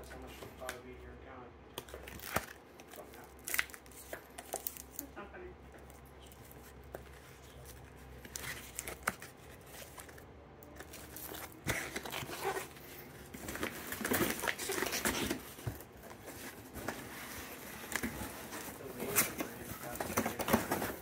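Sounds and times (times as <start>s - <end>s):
plastic crinkling and rustling: 1.8s - 21.0s.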